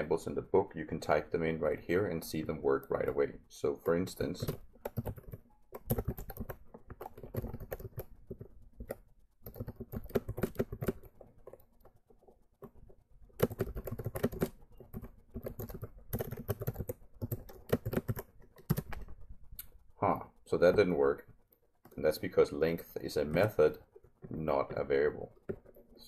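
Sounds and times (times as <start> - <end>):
computer keyboard typing: 0.0 - 26.0.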